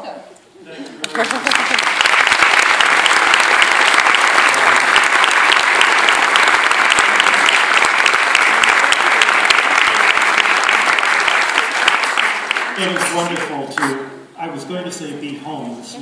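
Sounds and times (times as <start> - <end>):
audience applauding: 1.0 - 13.9.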